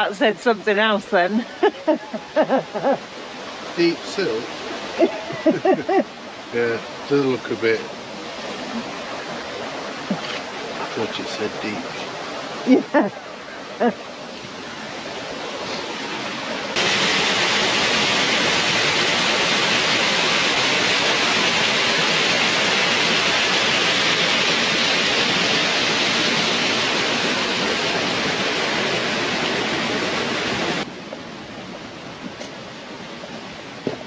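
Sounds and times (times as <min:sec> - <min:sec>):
water rushing over waterfall: 0:00.0 - 0:33.8.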